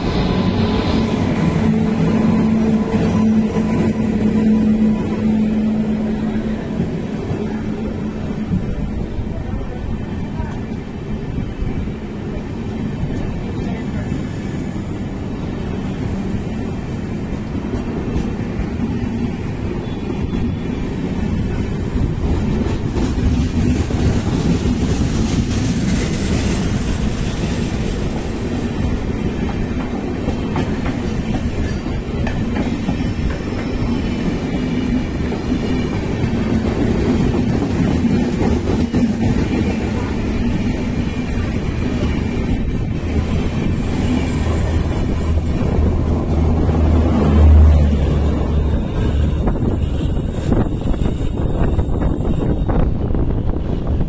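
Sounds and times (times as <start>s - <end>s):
train wheels rumbling over rails: 0.0s - 54.0s.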